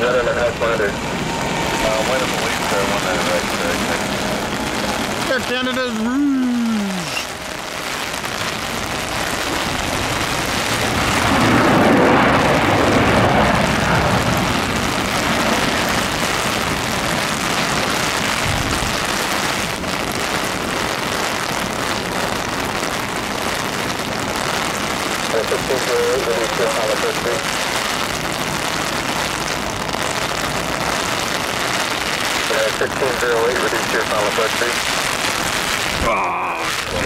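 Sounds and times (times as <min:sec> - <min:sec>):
distant jet engines rushing: 0:00.0 - 0:36.0
heavy rain: 0:00.0 - 0:37.0.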